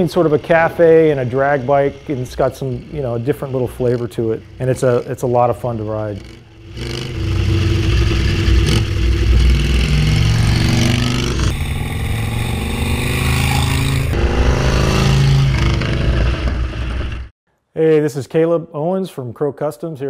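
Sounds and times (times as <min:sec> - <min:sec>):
motorcycle engine running: 0:00.0 - 0:17.3.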